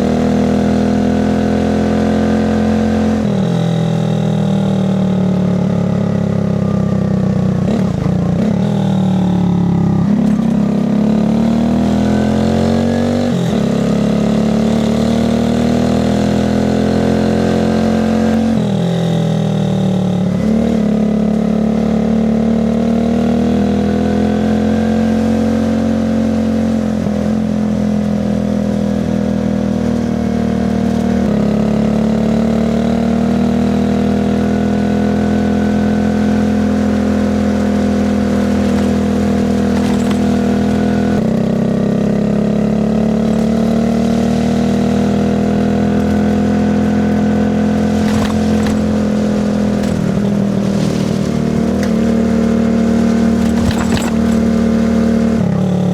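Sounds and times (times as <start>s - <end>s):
moped engine changing gears: 0.0s - 55.9s.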